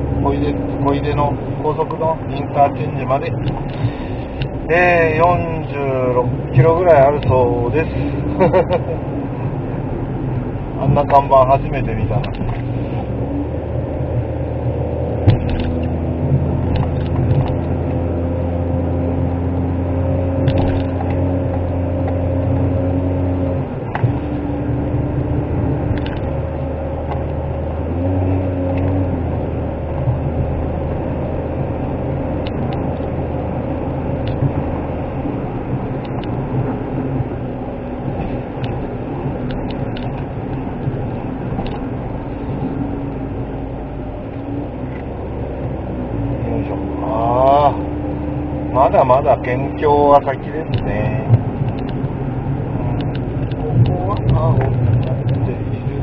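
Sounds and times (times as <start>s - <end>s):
car engine hum: 0.0s - 56.0s
road noise in car cabin: 0.0s - 56.0s.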